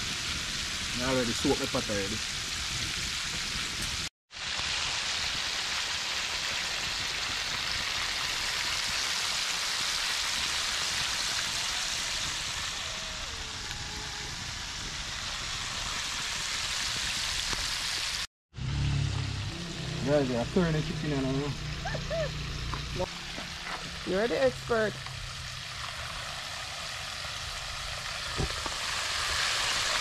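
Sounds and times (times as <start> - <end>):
oil sizzling and bubbling: 0.0 - 30.0.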